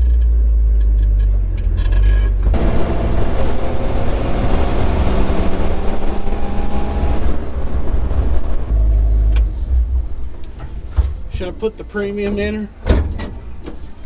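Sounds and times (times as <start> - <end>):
deep low rumble: 0.0 - 11.5
truck engine drone: 0.0 - 11.9
road and wind noise: 0.0 - 14.0.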